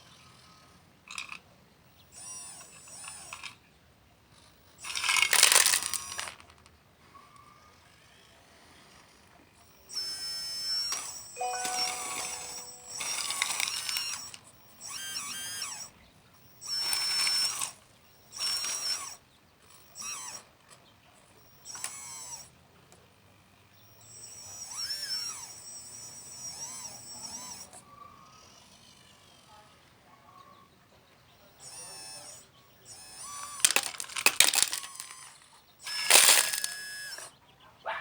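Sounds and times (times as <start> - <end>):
small electric motors whining: 0.0 - 1.4, 2.0 - 3.6, 4.3 - 6.5, 7.1 - 30.5, 31.3 - 37.4.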